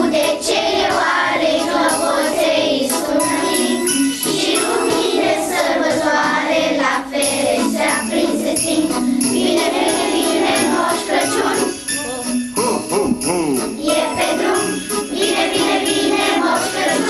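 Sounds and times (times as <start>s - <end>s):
children singing a carol: 0.0s - 11.9s, 12.6s - 17.0s.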